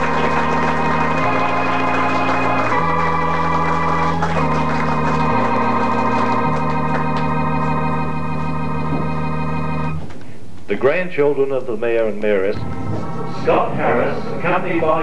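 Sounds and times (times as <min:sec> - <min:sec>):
electronic organ chords: 0:00.0 - 0:10.0, 0:12.2 - 0:15.0.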